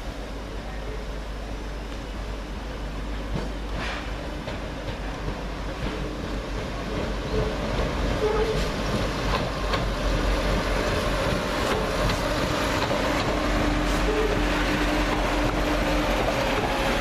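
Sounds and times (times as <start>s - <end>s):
diesel train engines: 0.0s - 17.0s
train wheels on rails: 0.0s - 17.0s.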